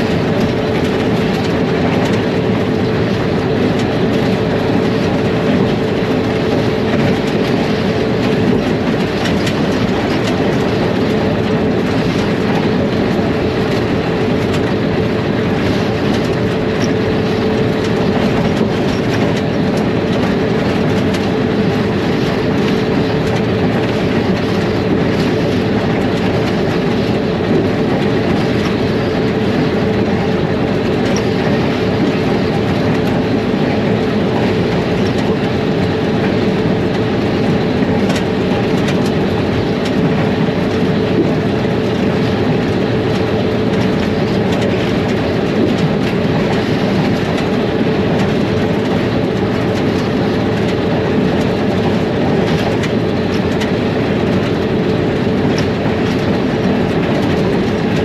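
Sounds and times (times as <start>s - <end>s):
locomotive engine humming: 0.0s - 58.0s
wheels rumbling on rails: 0.0s - 58.0s.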